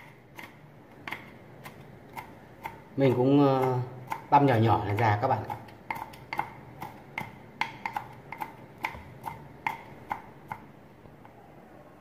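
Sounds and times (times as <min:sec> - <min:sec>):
knife chopping on wooden board: 0:00.0 - 0:10.7.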